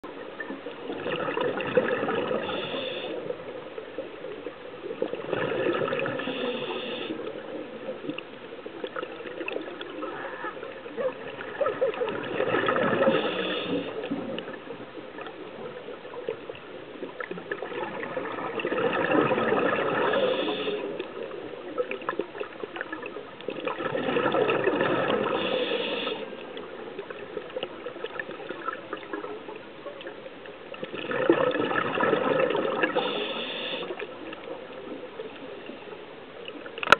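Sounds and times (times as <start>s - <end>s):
exhaled bubbles underwater: 0.0s - 36.9s
faint clicking: 0.1s - 31.4s, 32.4s - 36.9s.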